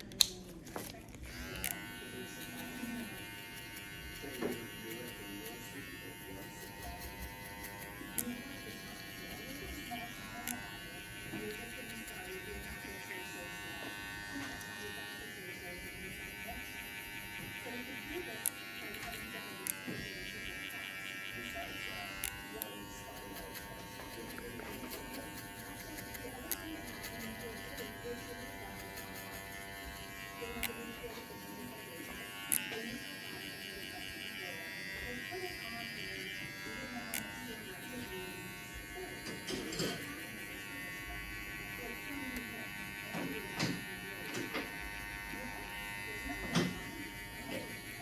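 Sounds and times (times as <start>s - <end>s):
electric hair clippers buzzing: 0.0s - 48.0s.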